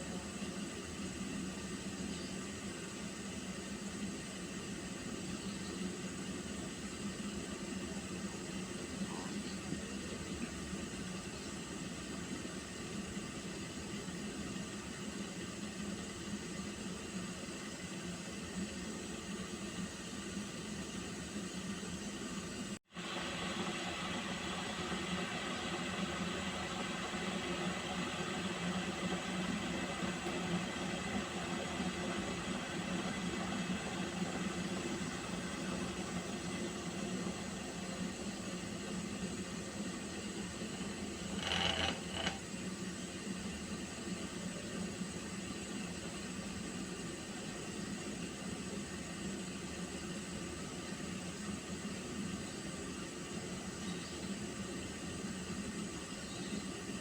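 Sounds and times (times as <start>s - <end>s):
water heating in a pot: 0.0s - 57.0s.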